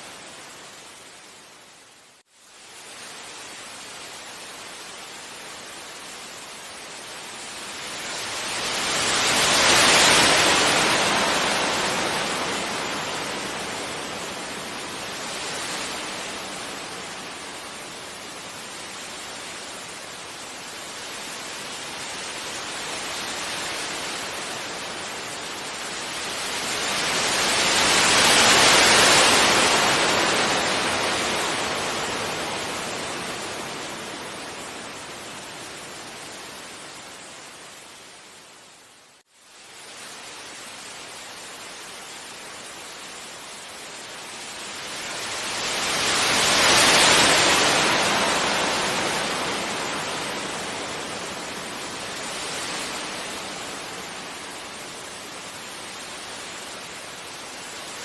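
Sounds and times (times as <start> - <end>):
sea waves breaking on beach: 2.8 - 37.4, 39.9 - 58.0.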